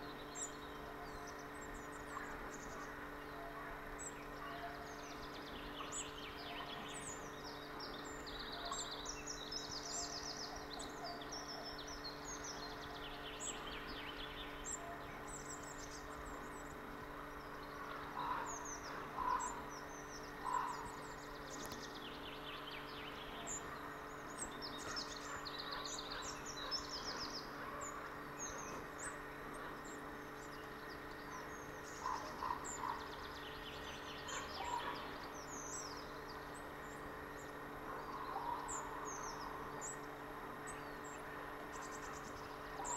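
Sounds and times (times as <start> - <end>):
low bird calls: 0.0 - 42.9
small birds chirping and trilling: 0.0 - 42.9.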